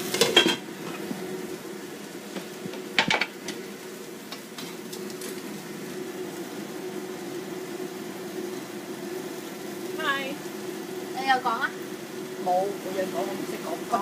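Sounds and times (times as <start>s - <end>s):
pan sizzling faintly: 0.0s - 14.0s
steady hum: 0.0s - 14.0s.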